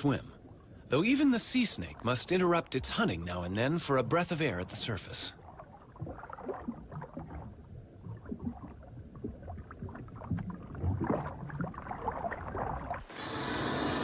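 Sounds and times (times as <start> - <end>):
small water splashes: 0.0 - 13.1
water sloshing and gurgling: 0.0 - 13.2.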